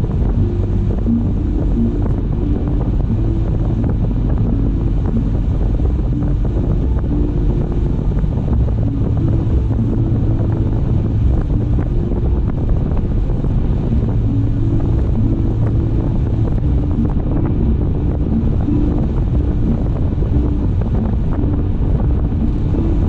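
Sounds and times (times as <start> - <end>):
tyre and road rumble: 0.0 - 23.0
wind noise: 0.0 - 23.0.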